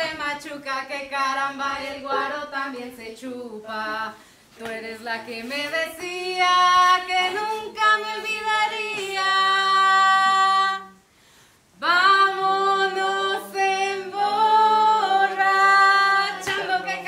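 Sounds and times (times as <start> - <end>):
people singing folk song: 0.0 - 11.0, 11.8 - 17.0.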